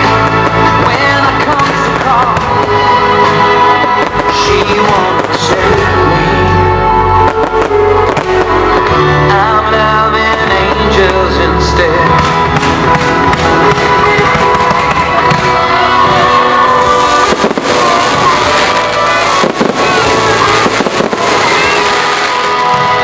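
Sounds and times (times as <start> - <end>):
fireworks bangs: 0.0 - 23.0
music: 0.0 - 23.0.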